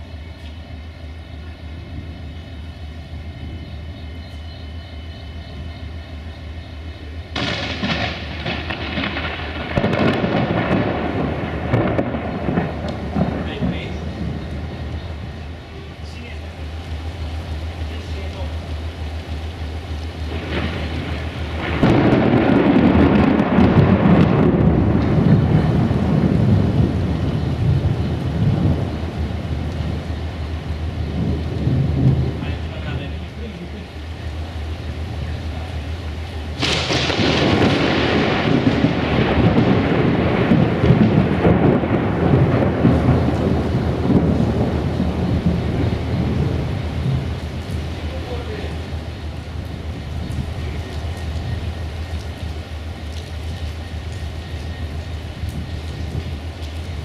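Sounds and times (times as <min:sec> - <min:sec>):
diesel locomotive idling: 0:00.0 - 0:55.5
thunder rumbling: 0:00.0 - 0:57.0.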